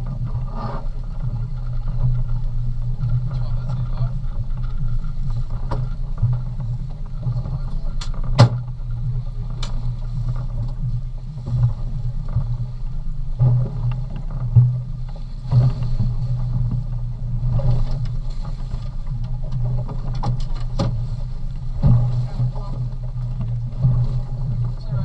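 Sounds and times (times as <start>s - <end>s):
boat engine humming: 0.0s - 25.0s.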